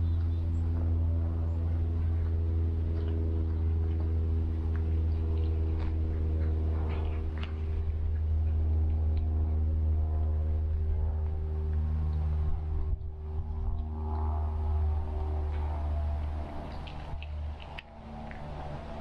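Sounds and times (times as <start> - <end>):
drone-like background music: 0.0 - 19.0
low hum: 0.0 - 19.0
cat chewing clicks: 1.6 - 19.0.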